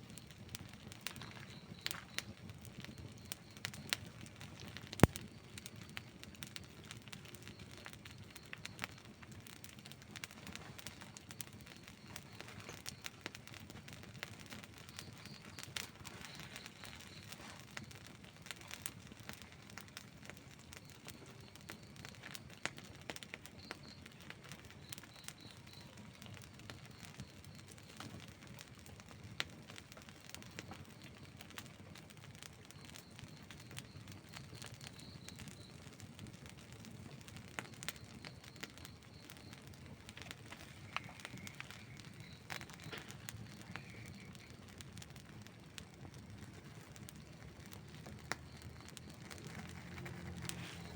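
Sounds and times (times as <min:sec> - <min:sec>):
campfire crackling: 0:00.0 - 0:50.9
fire popping: 0:00.0 - 0:50.9.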